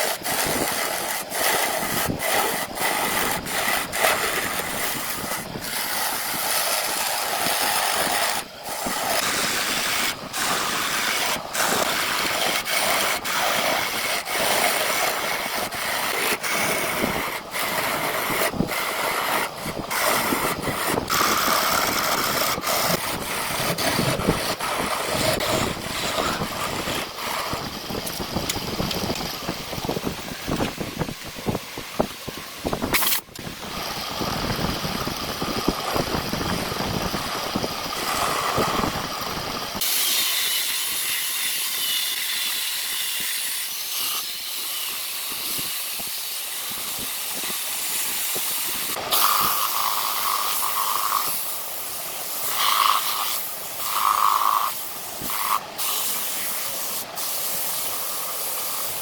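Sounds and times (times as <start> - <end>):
abrupt tool cuts: 0.0 - 59.0
wood scraping and hissing: 0.0 - 59.0.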